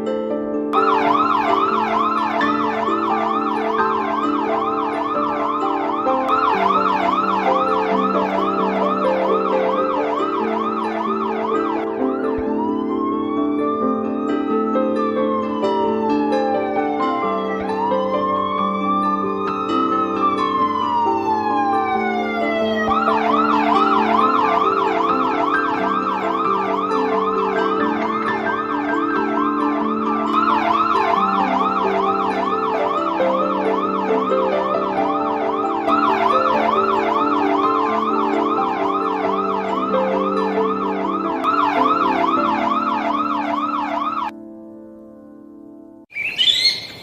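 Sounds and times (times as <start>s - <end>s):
background music with held notes: 0.0s - 46.1s
police siren wailing and yelping: 0.7s - 44.3s.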